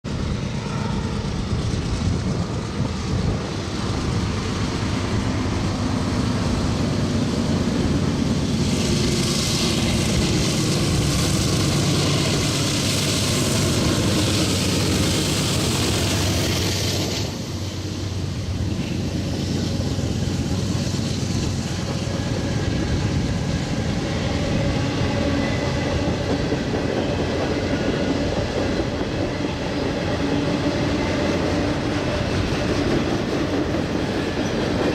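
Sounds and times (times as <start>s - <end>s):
diesel locomotive engines: 0.0s - 34.9s.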